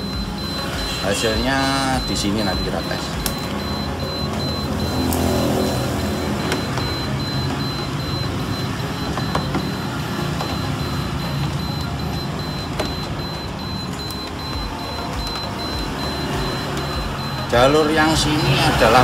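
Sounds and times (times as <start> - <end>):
short high electronic beeps: 0.0 - 19.0.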